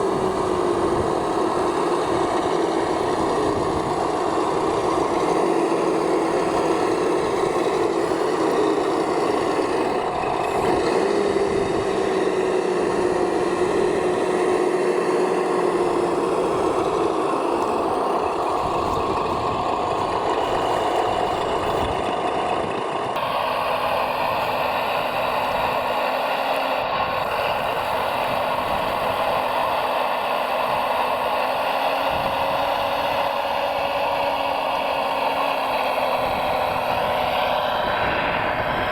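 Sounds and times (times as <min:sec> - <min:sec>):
toy construction machine motor whine: 0:00.0 - 0:38.9.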